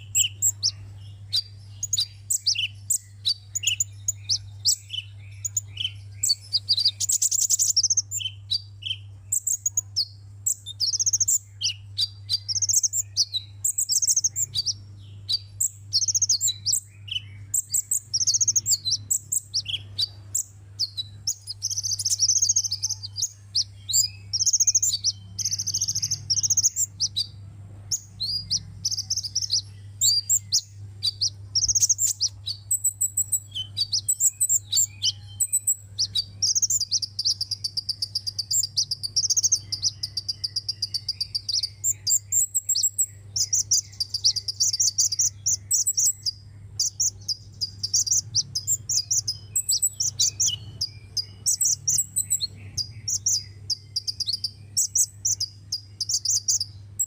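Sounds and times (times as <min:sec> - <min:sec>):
bird twittering and trilling: 0:00.0 - 0:57.0
steady low hum: 0:00.0 - 0:57.0.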